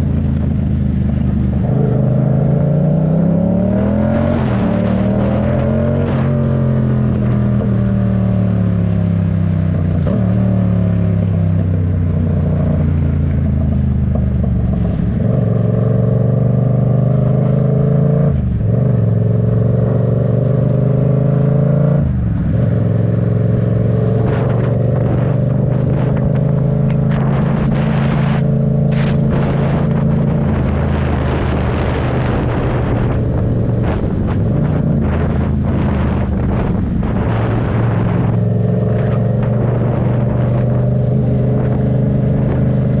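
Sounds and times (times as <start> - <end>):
motorcycle engine running: 0.0 - 16.2, 22.1 - 43.0.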